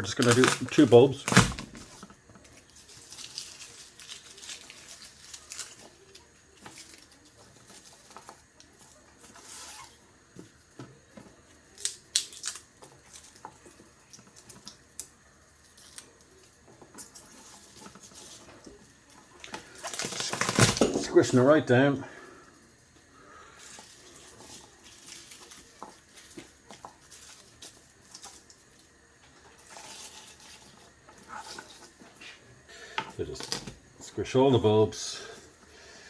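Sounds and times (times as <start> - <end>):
papery garlic skins crackling: 0.0 - 36.0.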